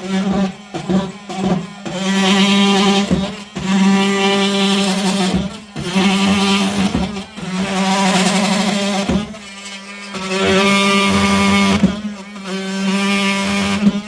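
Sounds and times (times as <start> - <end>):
oscillating multi-tool cutting plaster: 0.0 - 14.0.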